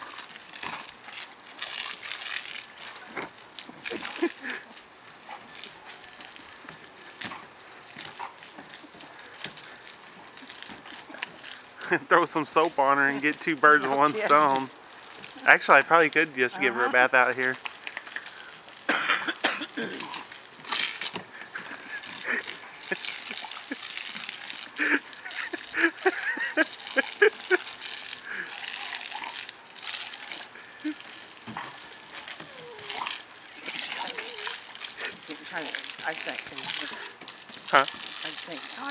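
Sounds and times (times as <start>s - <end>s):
hose water hissing onto deck: 0.0s - 38.9s.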